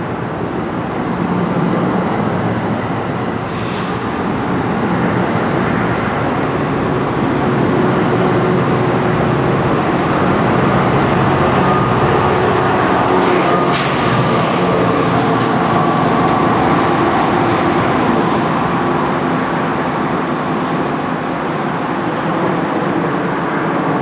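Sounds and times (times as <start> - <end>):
diesel locomotive engine under load: 0.0 - 24.0
rumble of wheels: 0.0 - 24.0.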